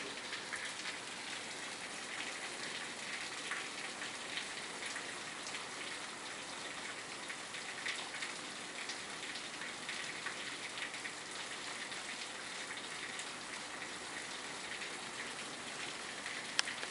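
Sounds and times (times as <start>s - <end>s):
heavy rain on pavement: 0.0s - 16.9s.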